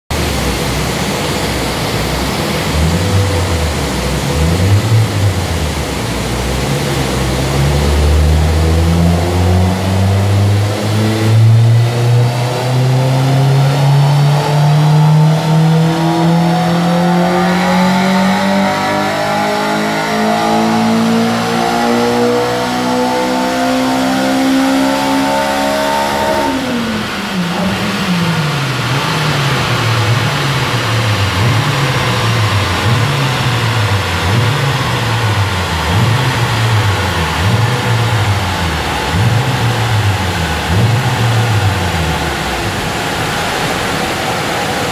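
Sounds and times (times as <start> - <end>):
car engine revving on dyno: 0.0 - 44.9.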